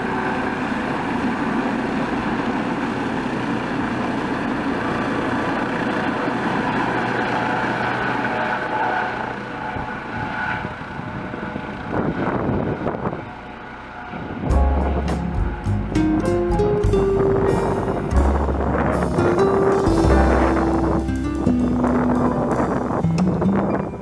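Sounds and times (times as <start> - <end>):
helicopter flying overhead: 0.0 - 24.0.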